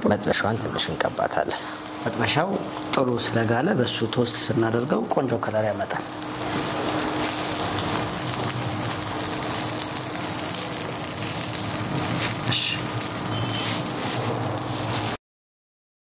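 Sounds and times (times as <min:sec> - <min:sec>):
bread sizzling in a frying pan: 0:00.4 - 0:15.2.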